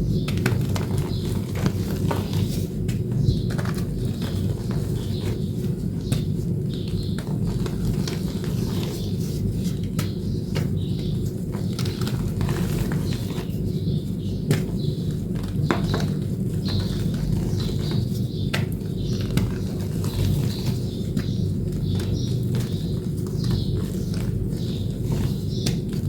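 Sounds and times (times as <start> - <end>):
chalk crunching and crackling: 0.0 - 26.0.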